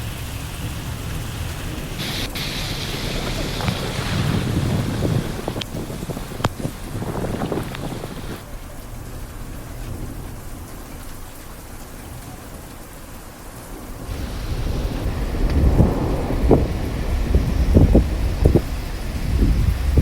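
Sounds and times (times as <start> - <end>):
low rumbling: 0.0 - 11.0, 13.8 - 20.0
heavy rain hissing: 0.0 - 20.0.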